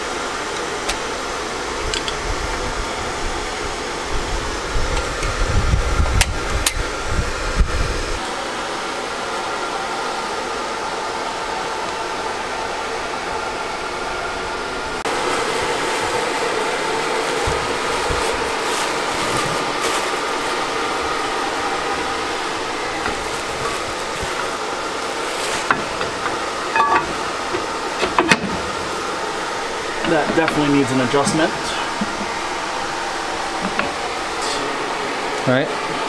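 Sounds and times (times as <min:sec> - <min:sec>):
mechanical hum with tones: 0:00.0 - 0:36.0.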